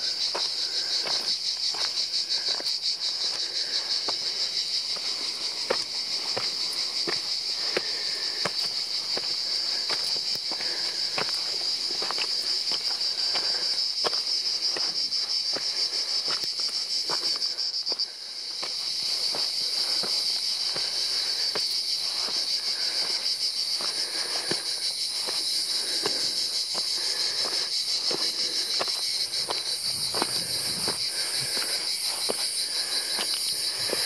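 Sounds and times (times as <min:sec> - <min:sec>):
cicadas buzzing: 0:00.0 - 0:34.0
footsteps crunching on stony path: 0:00.0 - 0:34.0.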